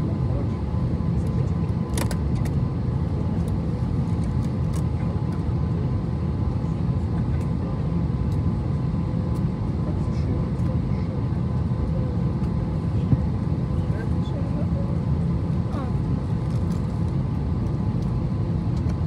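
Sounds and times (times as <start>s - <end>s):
jet engines idling in cabin: 0.0s - 19.0s.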